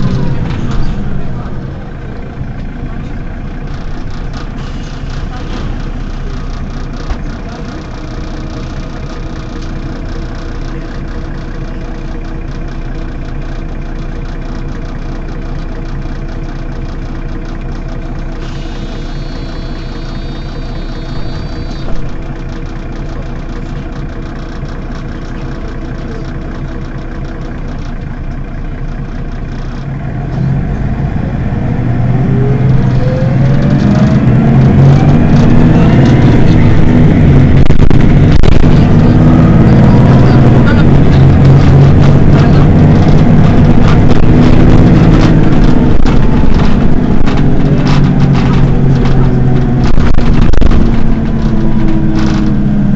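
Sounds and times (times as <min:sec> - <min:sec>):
bus engine idling and revving: 0:00.0 - 0:52.9.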